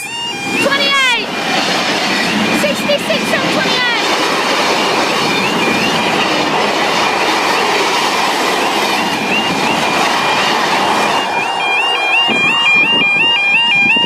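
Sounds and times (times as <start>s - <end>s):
crossing alarm rising tone: 0.0s - 14.0s
train wheels clattering on rails: 0.6s - 14.0s.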